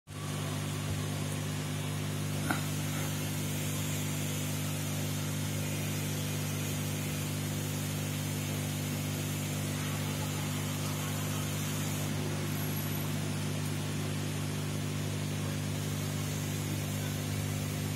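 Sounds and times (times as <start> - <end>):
aquarium pump humming: 0.1 - 17.9.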